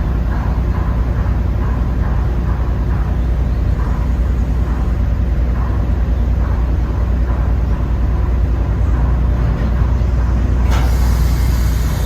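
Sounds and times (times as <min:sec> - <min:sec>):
ferry engine rumble: 0:00.0 - 0:12.0
wind: 0:00.0 - 0:12.0.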